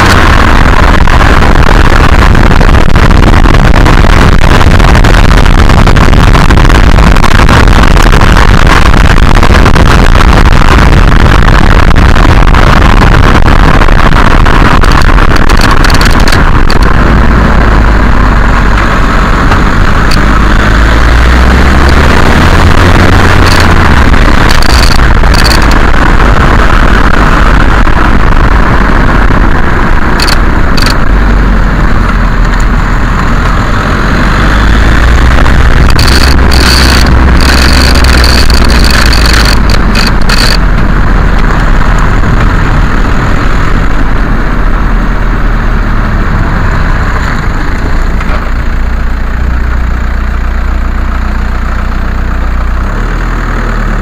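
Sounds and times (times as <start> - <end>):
road and wind rumble: 0.0 - 54.0.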